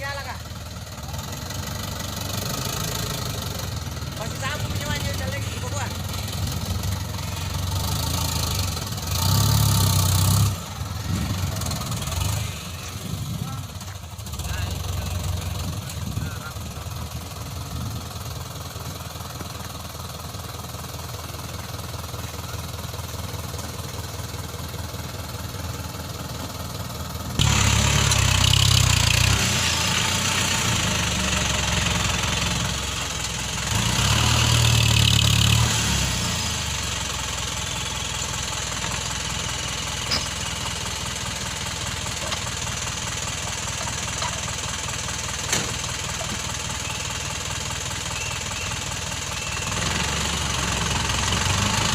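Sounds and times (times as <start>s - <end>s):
diesel engine idling and revving: 0.0s - 51.9s.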